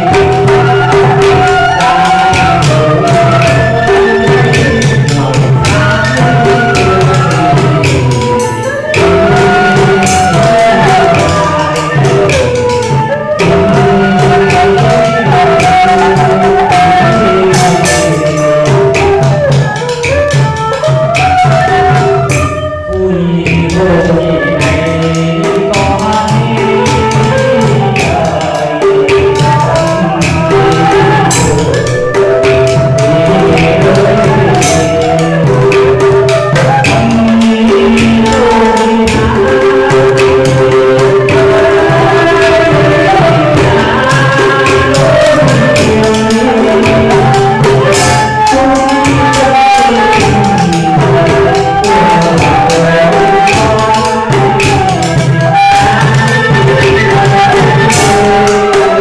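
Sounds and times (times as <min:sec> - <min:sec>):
bamboo flute: 0:00.0 - 0:59.0
clicking percussion beat: 0:00.0 - 0:59.0
man singing through a microphone: 0:00.0 - 0:59.0.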